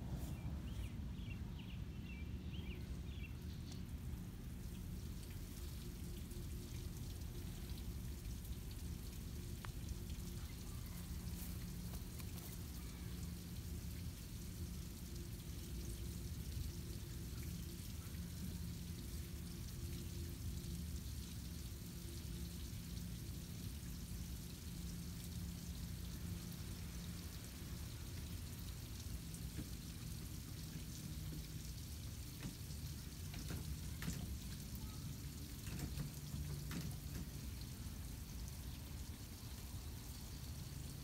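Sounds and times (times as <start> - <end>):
low steady rumble: 0.0 - 41.0
water splashing from hose: 3.2 - 41.0.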